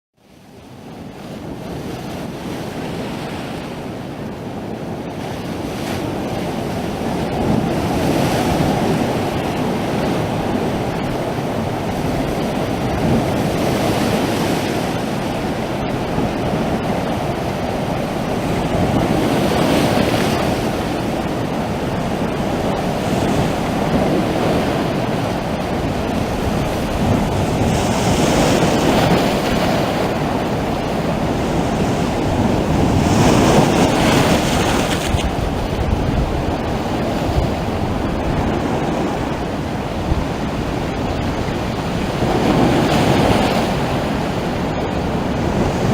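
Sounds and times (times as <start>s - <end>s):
sea waves breaking on shore: 0.2s - 45.9s.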